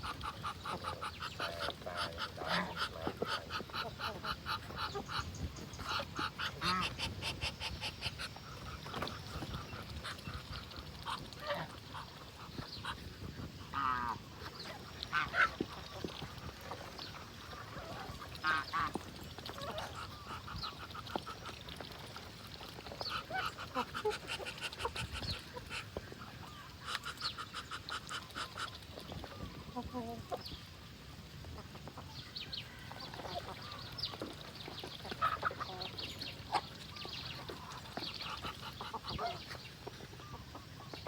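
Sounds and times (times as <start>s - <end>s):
ducks quacking: 0.0s - 30.4s, 32.7s - 41.0s.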